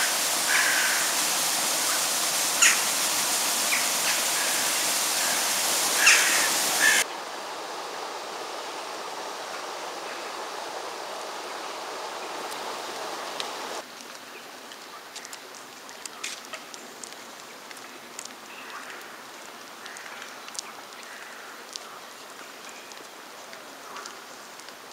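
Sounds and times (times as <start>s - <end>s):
running water: 0.0s - 24.9s.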